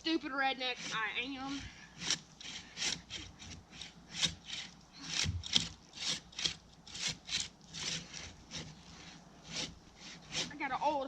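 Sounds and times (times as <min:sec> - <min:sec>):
hand saw rasping through wood: 0:00.5 - 0:11.0.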